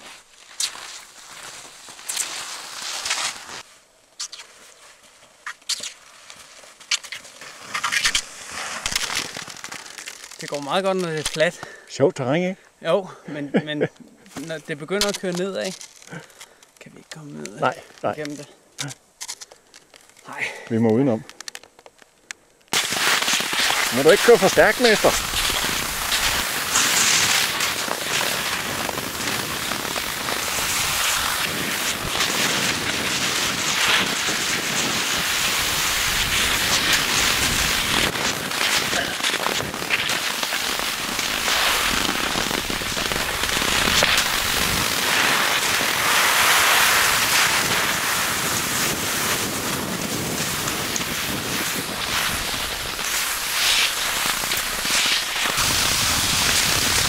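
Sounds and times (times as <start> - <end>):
skis sliding over hard snow: 0.0 - 11.6, 14.3 - 16.3, 22.7 - 57.0.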